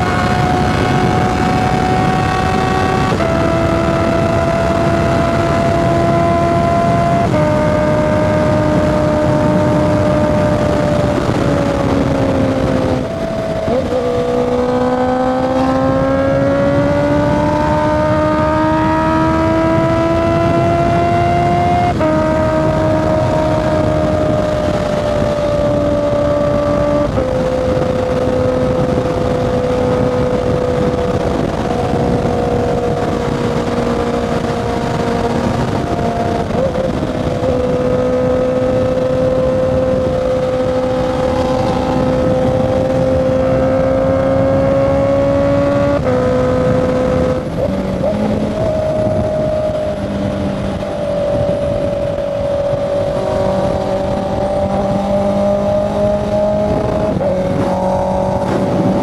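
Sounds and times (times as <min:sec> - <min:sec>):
motorcycle engine cruising: 0:00.0 - 0:59.0
wind rush: 0:00.0 - 0:59.0.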